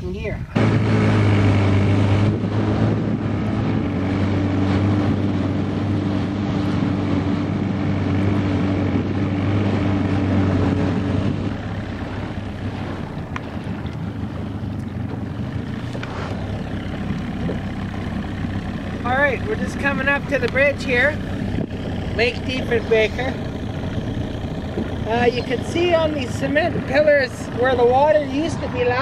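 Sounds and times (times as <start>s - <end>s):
outboard motor running: 0.0s - 29.0s
wind buffeting microphone: 0.0s - 29.0s.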